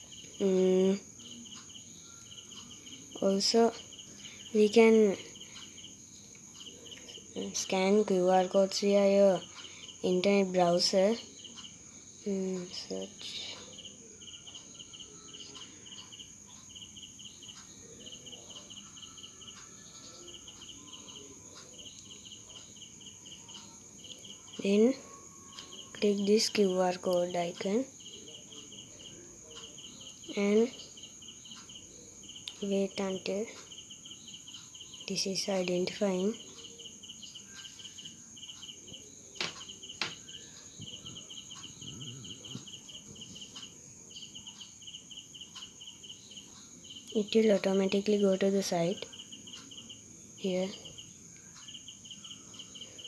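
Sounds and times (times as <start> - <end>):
crickets chirping: 0.0 - 53.0
steady high-pitched whine: 0.0 - 53.0.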